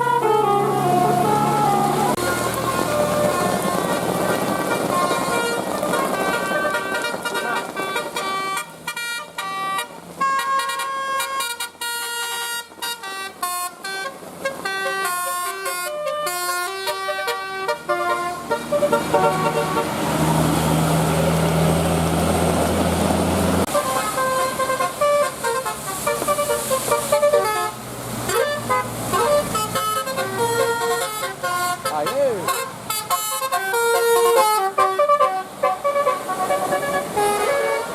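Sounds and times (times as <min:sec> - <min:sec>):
bus multi-tone horn tune: 0:00.0 - 0:20.5, 0:23.6 - 0:37.9
bus engine droning: 0:00.0 - 0:37.9.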